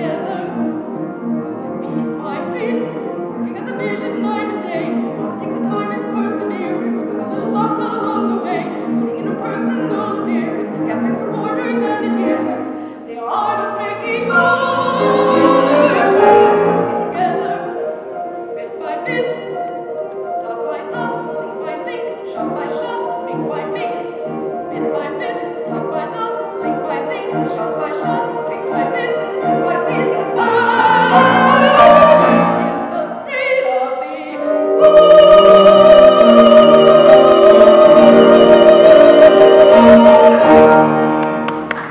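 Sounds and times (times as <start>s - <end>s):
woman singing: 0.0s - 0.6s, 1.9s - 19.6s, 20.4s - 41.0s
piano chords: 0.0s - 41.9s.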